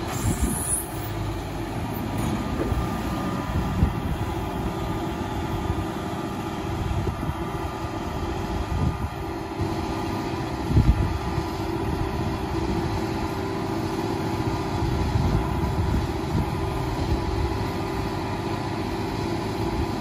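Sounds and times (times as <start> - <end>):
tractor diesel engine: 0.0 - 20.0
wheel loader diesel engine: 0.0 - 20.0.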